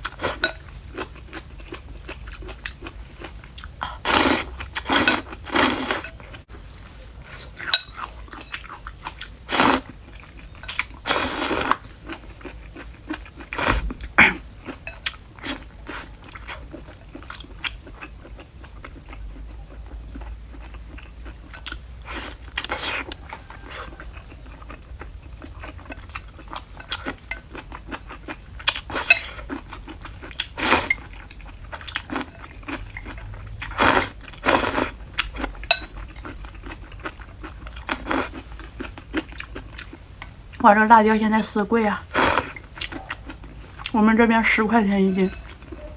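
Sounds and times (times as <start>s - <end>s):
person chewing and crunching: 0.0s - 6.6s, 7.2s - 40.6s, 42.1s - 44.0s.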